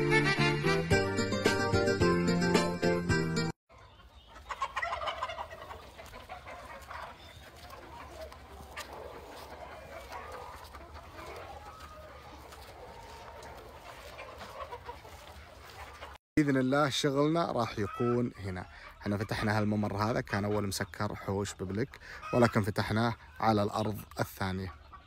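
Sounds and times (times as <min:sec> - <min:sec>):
chickens clucking: 0:03.7 - 0:25.0.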